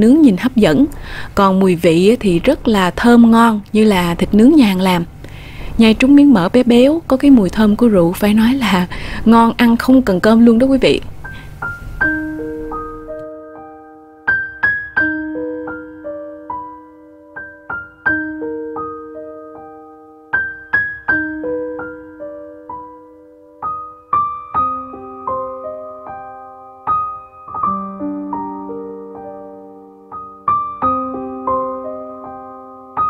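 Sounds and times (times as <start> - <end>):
gentle piano tune: 0.0 - 33.0.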